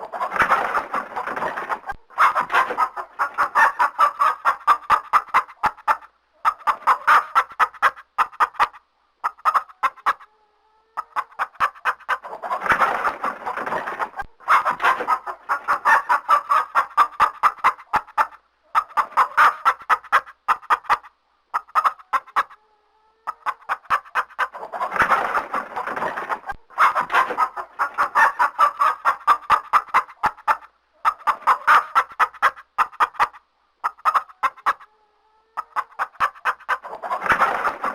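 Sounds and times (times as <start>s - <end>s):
chicken clucking rapidly: 0.0s - 37.9s.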